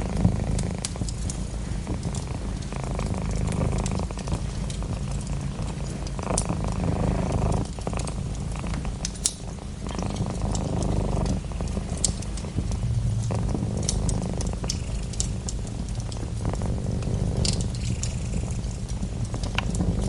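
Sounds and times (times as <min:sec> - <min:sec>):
cat purring: 0:00.0 - 0:20.0
fireplace fire crackling: 0:00.0 - 0:20.0.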